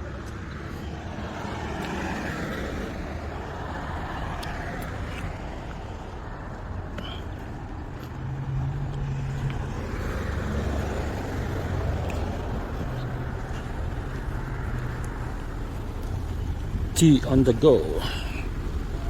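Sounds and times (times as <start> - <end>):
car engine running: 2.9 - 19.0.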